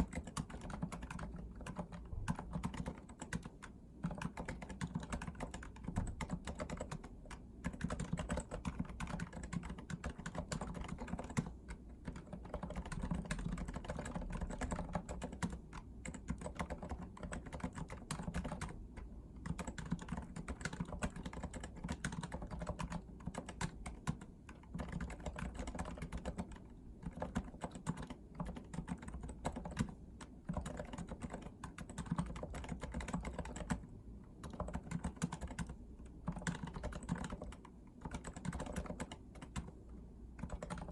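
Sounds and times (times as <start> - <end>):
fast typing on keyboard: 0.0 - 33.8, 34.4 - 39.8, 40.4 - 40.9.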